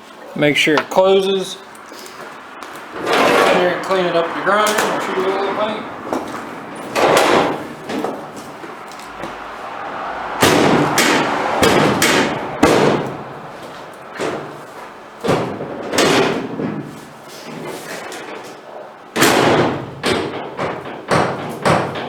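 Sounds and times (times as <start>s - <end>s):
metal tailgate banging: 2.9s - 17.8s, 19.2s - 22.0s.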